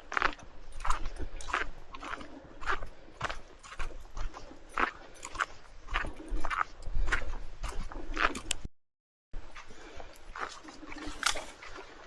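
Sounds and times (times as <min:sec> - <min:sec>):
footsteps on gritty leafy trail: 0:00.0 - 0:08.7, 0:09.4 - 0:12.0.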